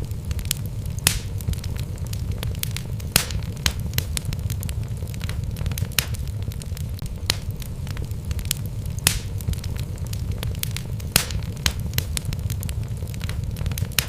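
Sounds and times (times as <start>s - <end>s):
fireplace logs crackling: 0.0s - 14.0s.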